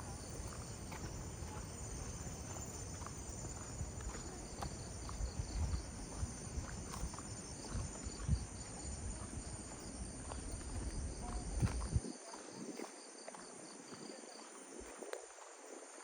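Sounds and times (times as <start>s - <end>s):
insects chirping: 0.0s - 16.0s
footsteps on path: 0.2s - 16.0s.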